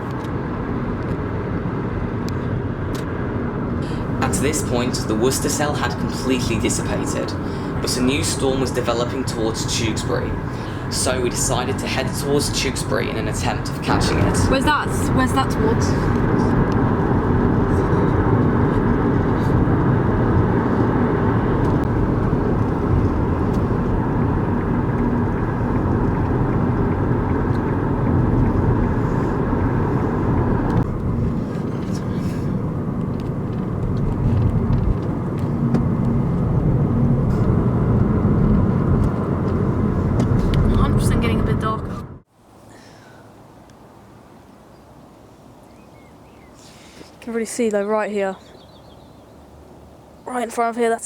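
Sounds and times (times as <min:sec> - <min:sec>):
car road and engine noise: 0:00.0 - 0:51.0.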